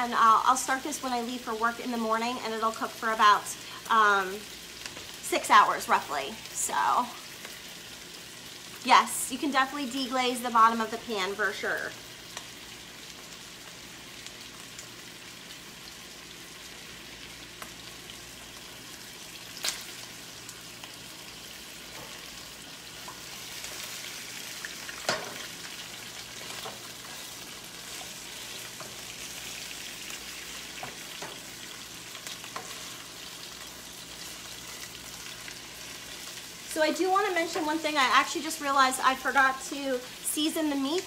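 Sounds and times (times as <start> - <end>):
meat sizzling in a skillet: 0.0 - 41.0.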